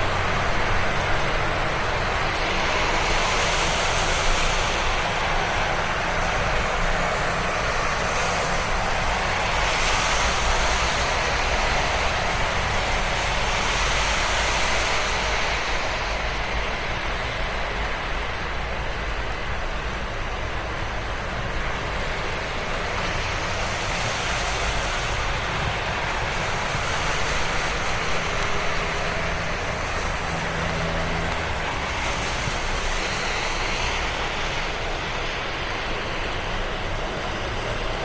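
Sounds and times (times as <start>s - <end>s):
tyres hissing on wet road: 0.0s - 38.0s.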